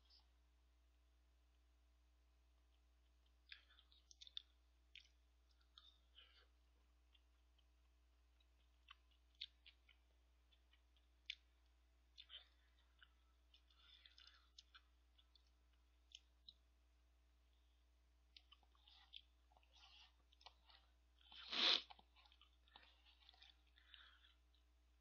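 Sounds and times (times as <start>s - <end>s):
quiet eating sounds: 1.4s - 25.0s.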